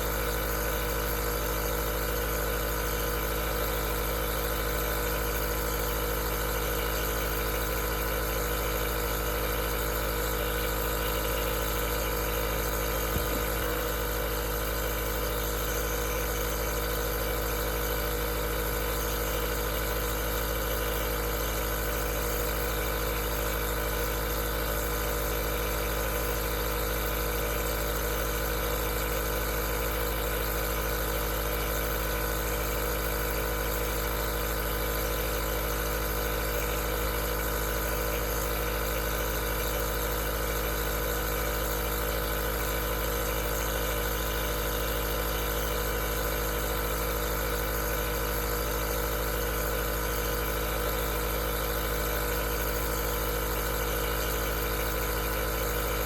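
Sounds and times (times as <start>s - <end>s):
nebulizer motor hum: 0.0s - 56.0s.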